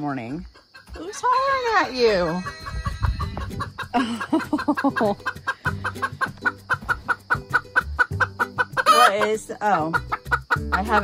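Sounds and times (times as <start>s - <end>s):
hen clucking quickly: 0.5s - 11.0s
hen squawking: 0.9s - 11.0s.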